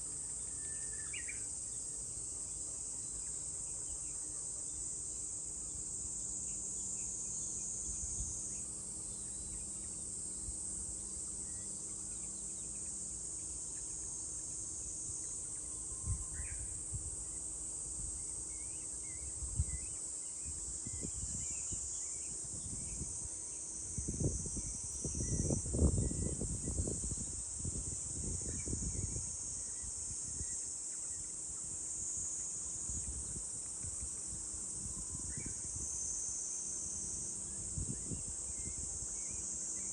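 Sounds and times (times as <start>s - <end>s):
cicadas shrilling: 0.0s - 39.9s.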